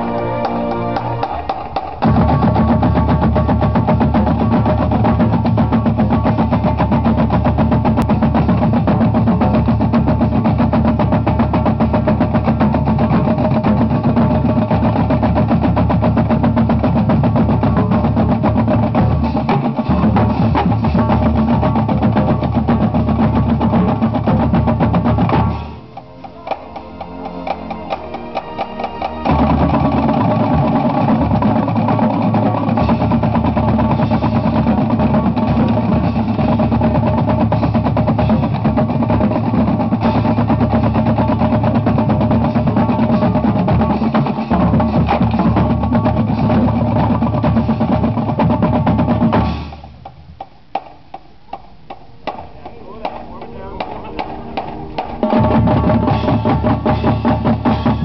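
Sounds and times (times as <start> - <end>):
marching drumline playing: 0.0 - 58.0.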